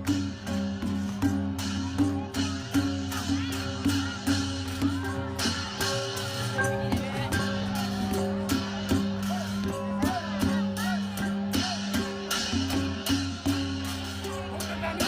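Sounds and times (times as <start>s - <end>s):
backing music: 0.0s - 15.0s
goblet drum beat: 0.0s - 15.0s.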